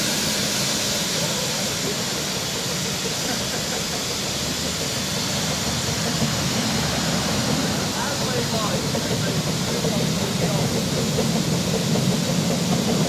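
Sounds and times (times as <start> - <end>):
steam hissing from locomotive: 0.0 - 13.0.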